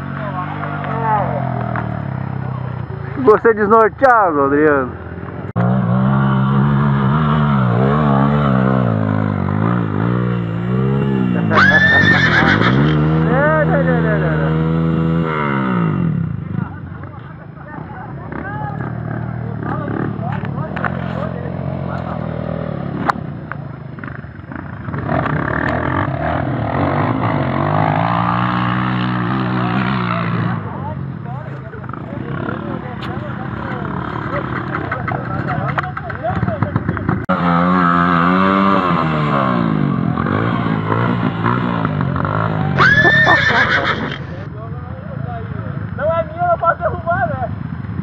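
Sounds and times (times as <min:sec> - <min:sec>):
motorcycle engines running: 0:00.0 - 0:48.0.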